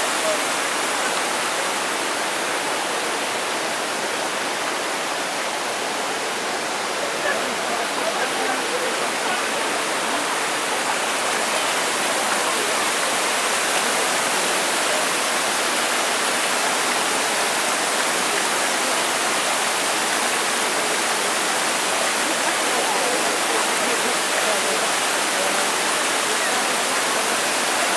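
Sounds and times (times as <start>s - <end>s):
stream rushing over boulders: 0.0s - 27.9s.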